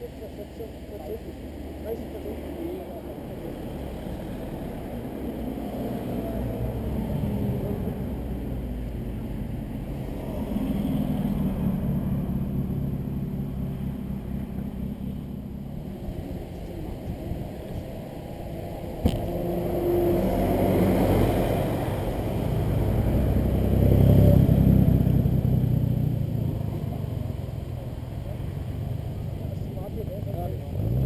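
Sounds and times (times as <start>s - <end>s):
sports car engine passing: 2.3s - 31.0s.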